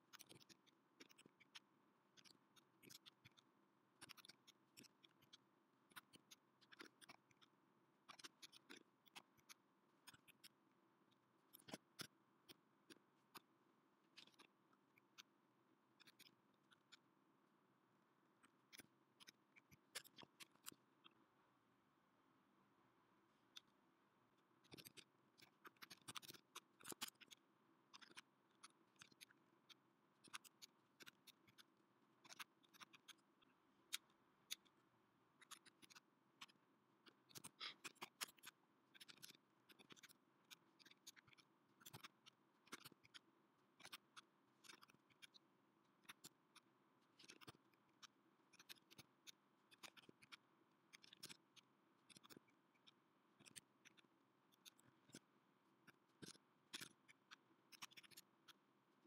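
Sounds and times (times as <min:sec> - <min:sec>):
faint keyboard typing: 0:00.0 - 0:17.1, 0:18.2 - 0:21.3, 0:23.3 - 0:59.0.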